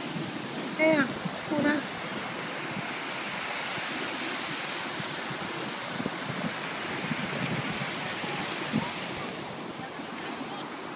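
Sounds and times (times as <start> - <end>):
surf breaking on beach: 0.0 - 10.9.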